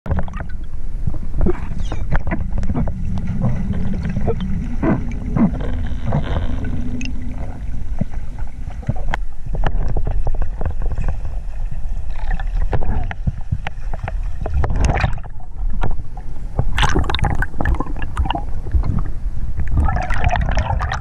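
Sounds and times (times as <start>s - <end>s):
underwater water rumble: 0.1s - 21.0s.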